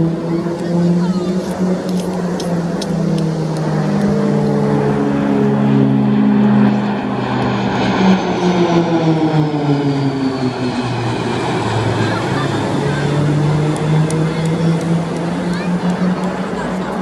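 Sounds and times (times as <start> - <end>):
propeller aircraft flying past: 0.0 - 17.0.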